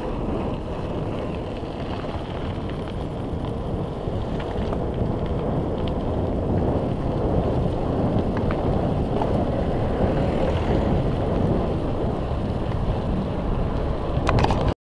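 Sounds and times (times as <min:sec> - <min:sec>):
bike clicks: 0:00.0 - 0:14.7
wind rushing over microphone: 0:00.0 - 0:14.8.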